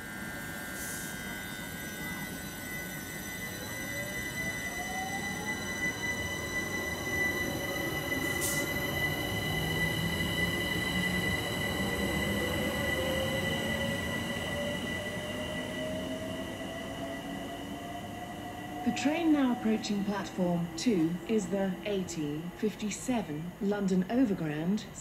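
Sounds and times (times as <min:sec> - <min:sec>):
train wheels squealing: 0:00.0 - 0:21.8
electric train motor whine: 0:00.0 - 0:24.3.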